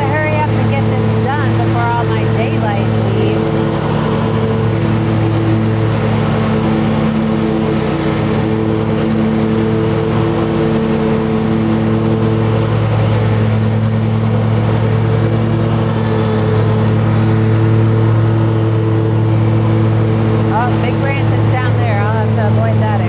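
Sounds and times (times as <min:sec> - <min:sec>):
ride-on machine engine humming: 0:00.0 - 0:23.0.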